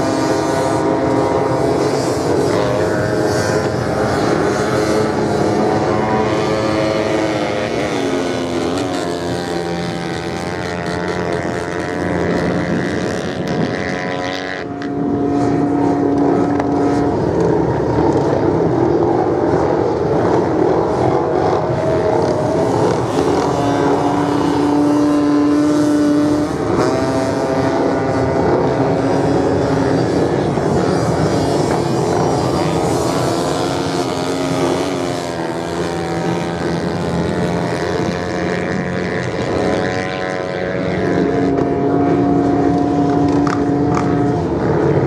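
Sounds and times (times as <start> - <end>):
dirt bike engines revving: 0.0 - 45.0.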